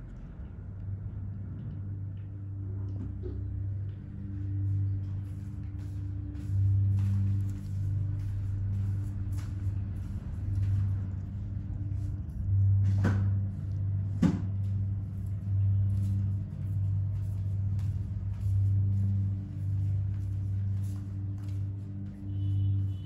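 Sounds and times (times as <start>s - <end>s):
deep bass drone music: 0.0s - 23.0s.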